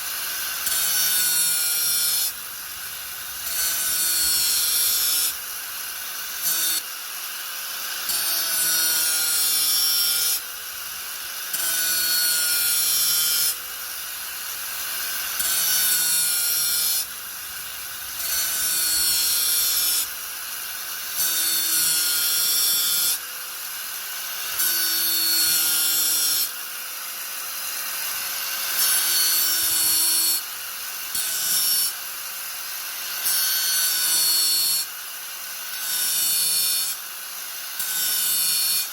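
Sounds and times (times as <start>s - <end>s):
harsh grinding hiss: 0.0s - 38.9s.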